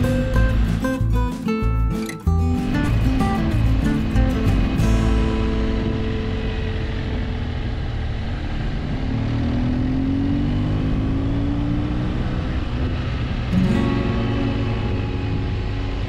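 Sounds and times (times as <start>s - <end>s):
motorcycle engine running: 0.0s - 16.0s
steady rushing noise: 2.4s - 16.0s.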